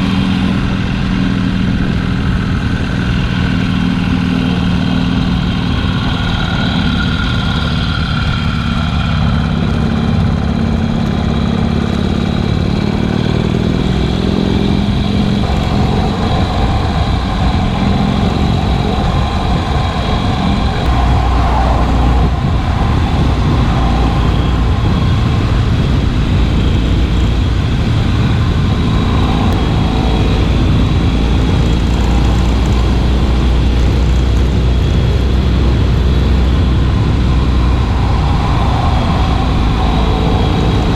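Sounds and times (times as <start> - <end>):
heavy low rumble: 0.0 - 40.9
motorcycle engine running: 0.0 - 40.9
road noise rushing: 0.0 - 40.9.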